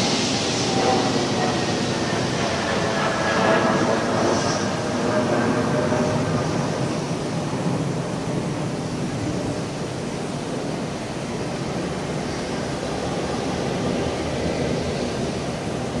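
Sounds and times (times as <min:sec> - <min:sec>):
diesel locomotive passing: 0:00.0 - 0:16.0
train wheels rumbling on track: 0:00.0 - 0:16.0.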